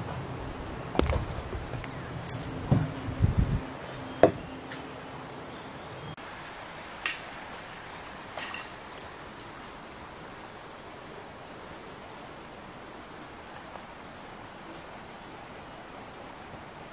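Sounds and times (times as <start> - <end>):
steady background hiss: 0.0 - 16.9.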